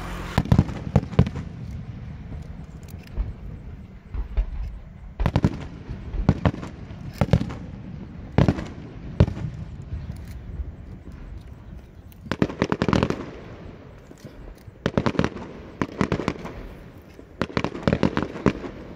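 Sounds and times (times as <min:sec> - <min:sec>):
firework shells bursting: 0:00.0 - 0:18.9.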